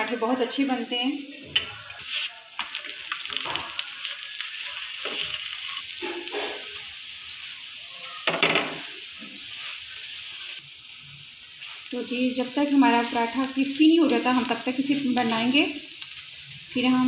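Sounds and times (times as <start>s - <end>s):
flatbread sizzling in ghee: 0.0s - 17.0s.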